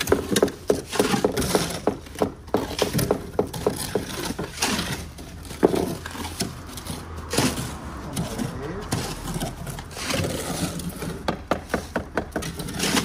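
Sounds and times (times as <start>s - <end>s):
shovels scraping wet concrete: 0.0s - 13.0s.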